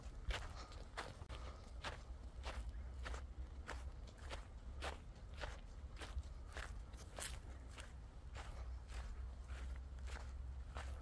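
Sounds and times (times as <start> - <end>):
footsteps on dry grass: 0.0 - 11.0.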